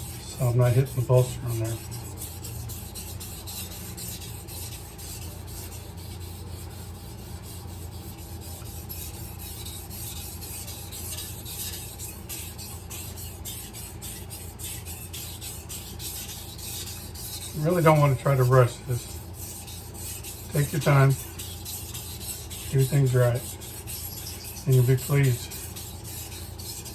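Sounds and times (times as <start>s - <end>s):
knife scraping on wet whetstone: 0.0s - 26.9s.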